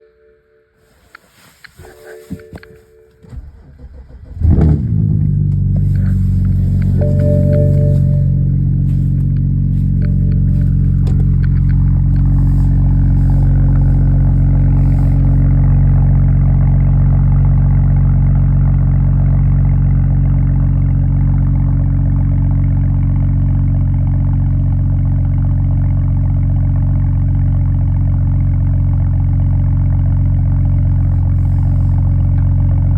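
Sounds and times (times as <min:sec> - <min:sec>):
car engine idling: 0:00.8 - 0:32.9.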